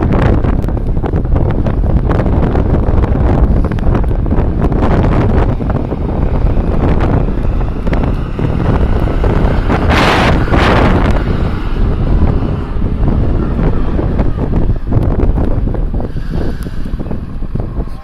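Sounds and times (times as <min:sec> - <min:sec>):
gusty wind buffeting microphone: 0:00.0 - 0:18.0.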